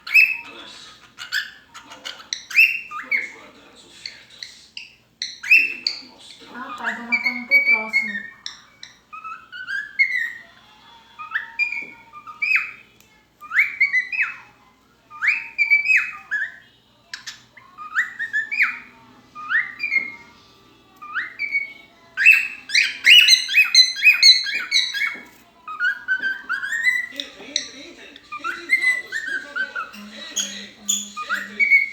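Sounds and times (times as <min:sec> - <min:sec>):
pet bird whistling song: 0:00.0 - 0:00.6, 0:01.2 - 0:03.4, 0:04.0 - 0:06.1, 0:06.7 - 0:10.5, 0:11.2 - 0:20.4, 0:21.0 - 0:31.9.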